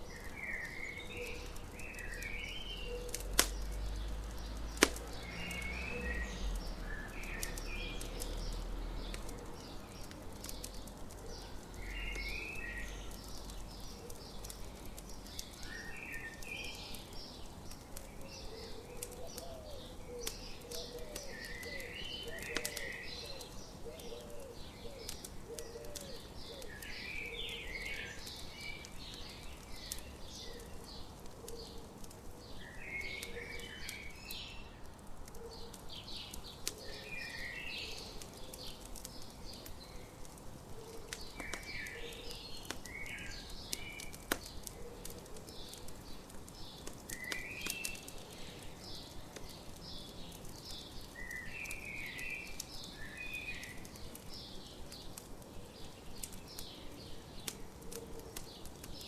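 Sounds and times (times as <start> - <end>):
campfire crackling: 0.0 - 59.0
songbirds chirping: 0.0 - 59.0
sharp fire pops: 0.1 - 59.0.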